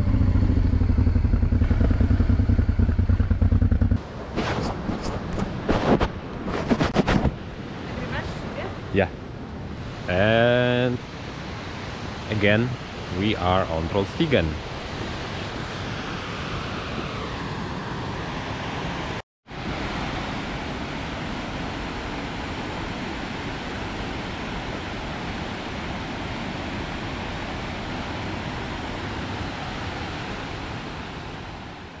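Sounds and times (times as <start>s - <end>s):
wind: 0.0s - 32.0s.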